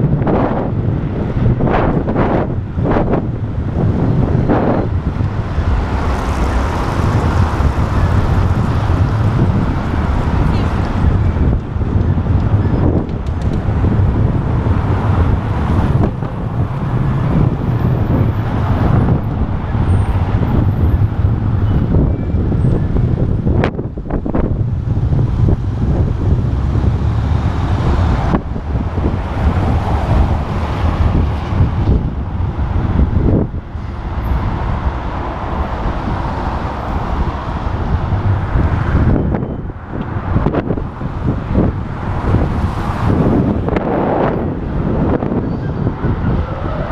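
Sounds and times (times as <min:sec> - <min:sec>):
passing cars: 0:00.0 - 0:46.9
wind rumble on microphone: 0:00.0 - 0:46.9.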